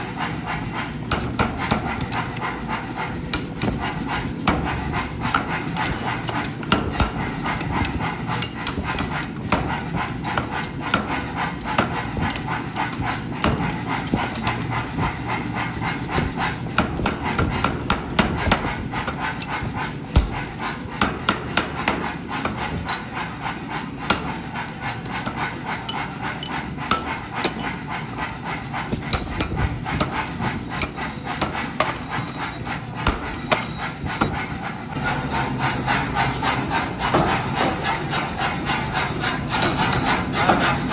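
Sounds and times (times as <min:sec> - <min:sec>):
forging hammer striking steel: 0:00.0 - 0:40.9
workshop noise: 0:00.0 - 0:40.9.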